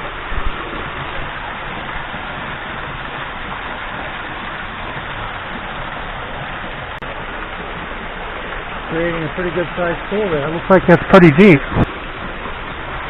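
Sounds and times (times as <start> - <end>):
waterfall pouring into pool: 0.0 - 13.0.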